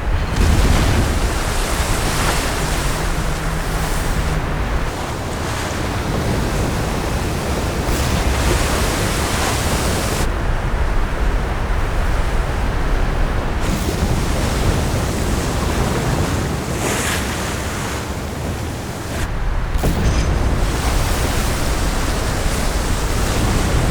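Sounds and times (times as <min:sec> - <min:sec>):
heavy waves: 0:00.0 - 0:23.9
wind: 0:00.0 - 0:23.9.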